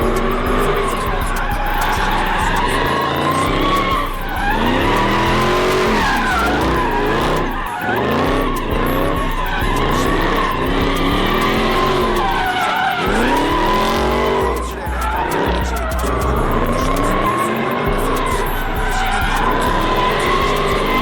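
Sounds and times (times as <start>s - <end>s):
car engine revving: 0.0s - 21.0s
tyres squealing: 0.0s - 21.0s.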